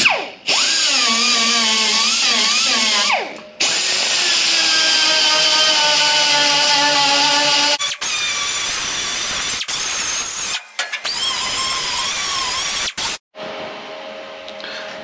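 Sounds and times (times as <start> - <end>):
electric grinder on sheet metal: 0.0 - 13.2.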